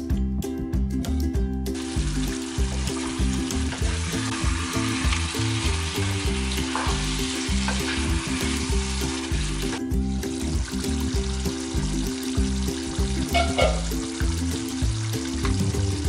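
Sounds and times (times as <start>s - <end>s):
background music: 0.0s - 16.0s
food sizzling in a frying pan: 1.8s - 16.0s.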